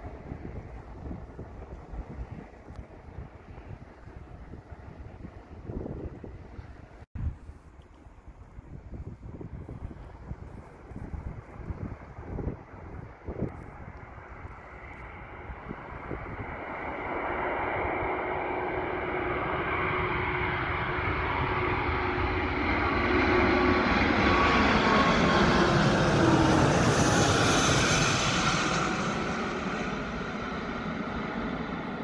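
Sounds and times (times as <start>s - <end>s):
jet airliner passing overhead: 0.0s - 7.1s, 9.0s - 32.0s.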